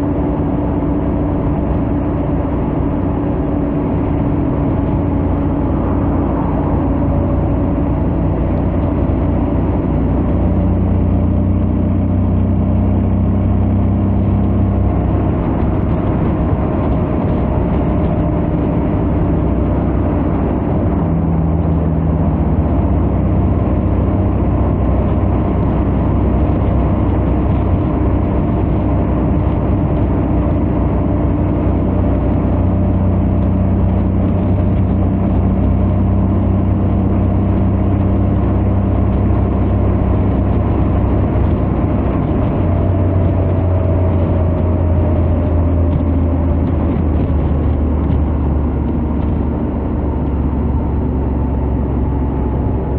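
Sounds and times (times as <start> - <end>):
motorcycle engine cruising: 0.0 - 52.9.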